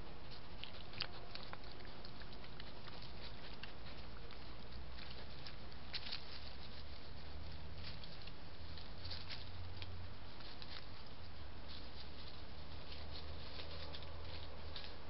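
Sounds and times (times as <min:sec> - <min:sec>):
animal moving through leaf litter: 0:00.0 - 0:15.0.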